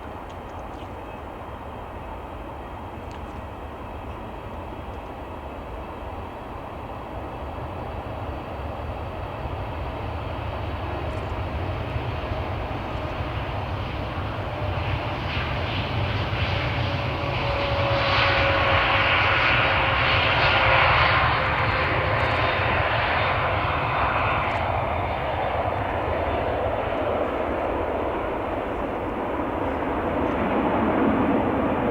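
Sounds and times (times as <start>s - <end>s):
jet engines passing: 0.0s - 31.9s.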